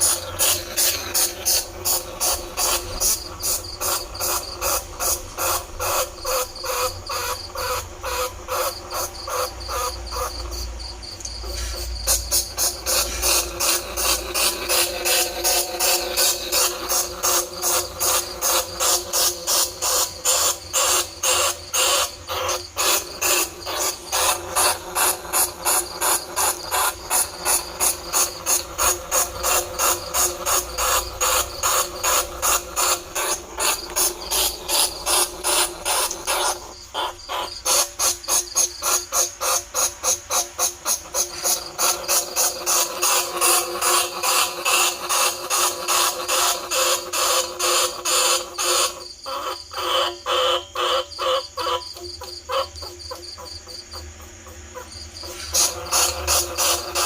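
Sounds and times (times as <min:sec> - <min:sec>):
sharp squeaking chirps: 0:00.0 - 0:57.0.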